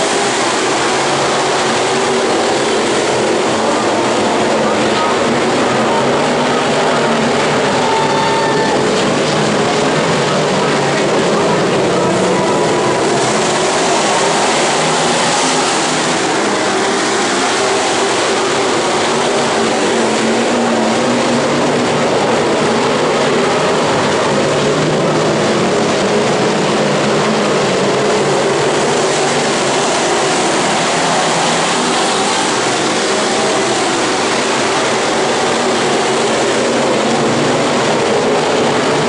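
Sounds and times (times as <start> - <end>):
race car engines at full throttle: 0.0 - 39.0.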